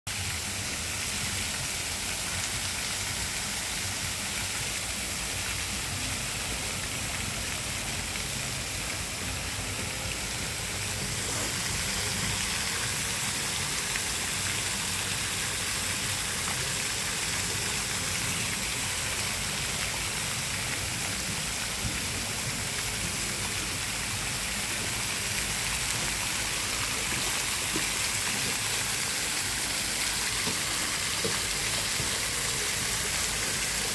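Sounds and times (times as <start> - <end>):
fountain water splashing: 0.1 - 33.9.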